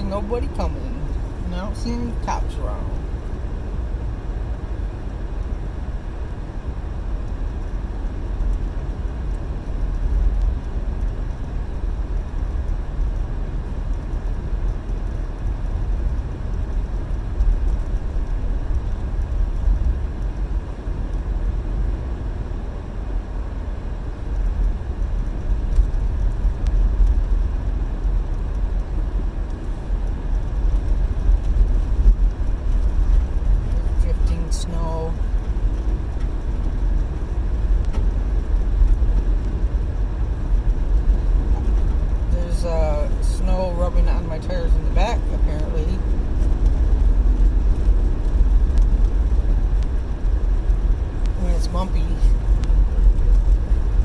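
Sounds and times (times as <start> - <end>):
car driving on snowy road: 0.0 - 54.0.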